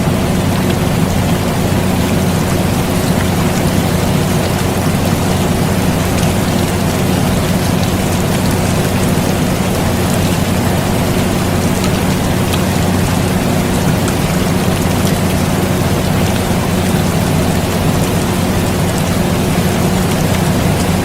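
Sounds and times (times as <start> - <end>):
air conditioner humming: 0.0 - 21.0
raindrop ticks: 0.0 - 21.0
steady rain: 0.0 - 21.0.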